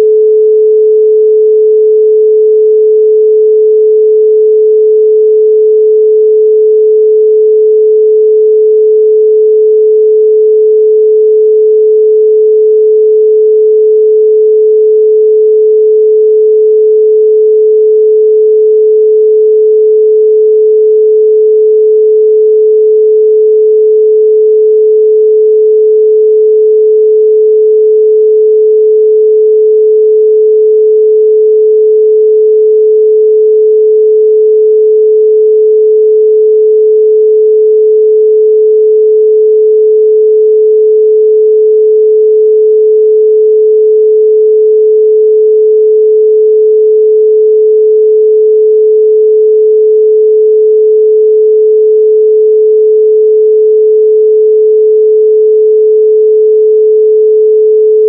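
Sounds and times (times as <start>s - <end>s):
pure sine tone: 0.0s - 58.0s.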